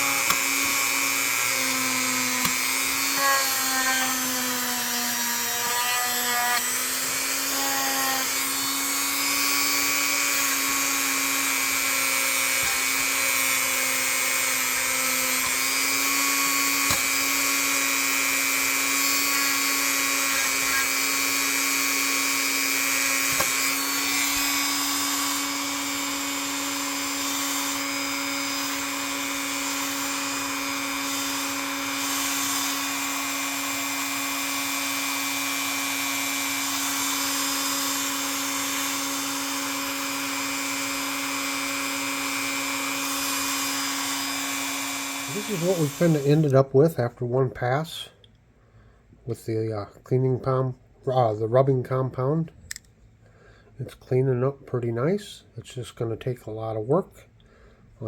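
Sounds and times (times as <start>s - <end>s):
rotary tool whining: 0.0s - 46.6s.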